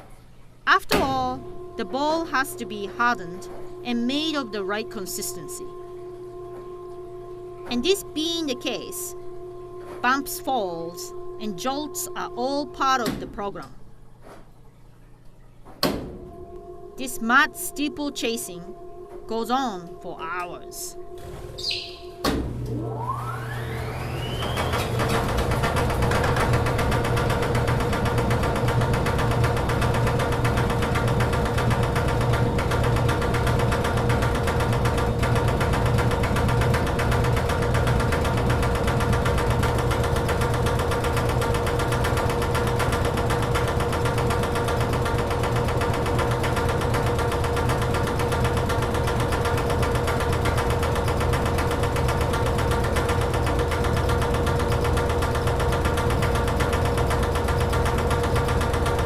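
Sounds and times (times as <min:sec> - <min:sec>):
machine motor humming and rattling: 0:01.0 - 0:14.6, 0:20.9 - 0:59.0.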